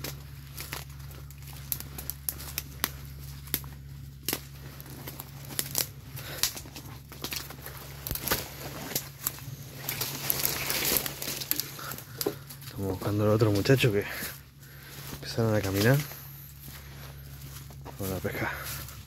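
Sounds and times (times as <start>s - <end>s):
footsteps crunching dry branches: 0.0s - 19.0s
steady low hum: 0.0s - 19.0s
twig cracks: 0.0s - 19.0s.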